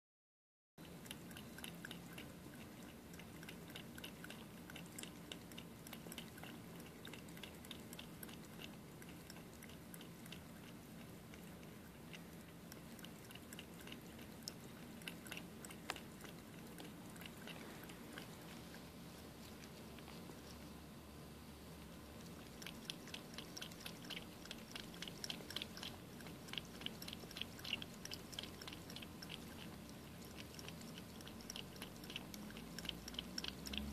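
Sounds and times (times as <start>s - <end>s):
cat lapping water: 0.8s - 33.9s.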